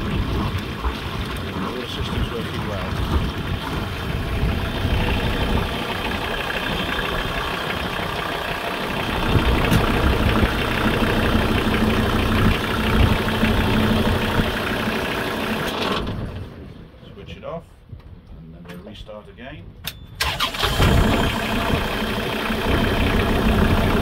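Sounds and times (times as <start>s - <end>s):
marine diesel engine idling: 0.0s - 15.8s, 20.2s - 24.0s.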